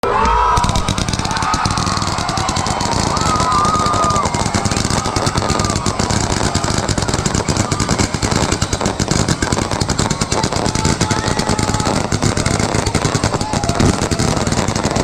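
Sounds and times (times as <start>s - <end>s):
fireworks bangs and crackles: 0.2s - 15.0s
fireworks whistling: 0.4s - 15.0s.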